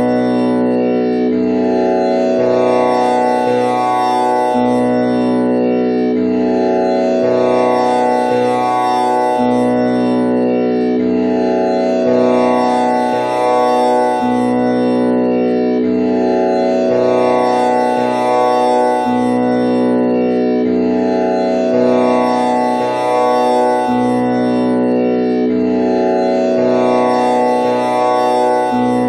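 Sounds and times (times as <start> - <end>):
tanpura drone: 0.0 - 29.0.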